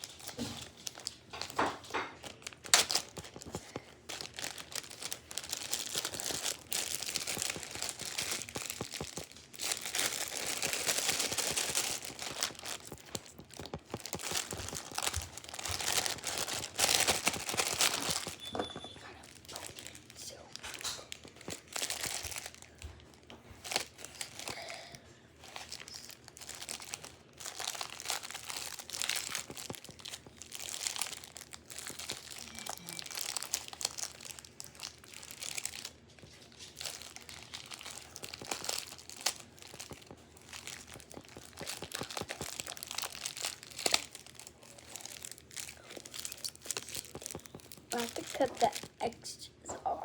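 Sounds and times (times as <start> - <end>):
plastic crinkling and rustling: 0.0 - 50.0.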